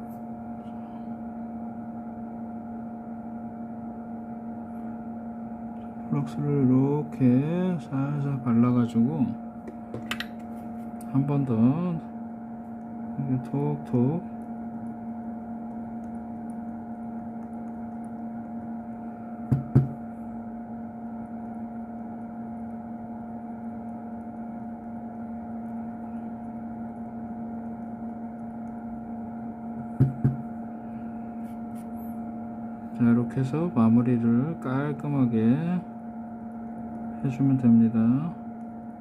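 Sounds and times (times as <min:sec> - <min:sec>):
steady electrical hum: 0:00.0 - 0:39.0.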